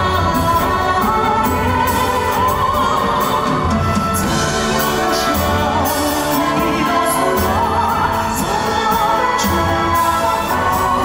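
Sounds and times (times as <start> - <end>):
instrumental accompaniment: 0.0 - 11.0
person singing with vibrato: 0.0 - 11.0.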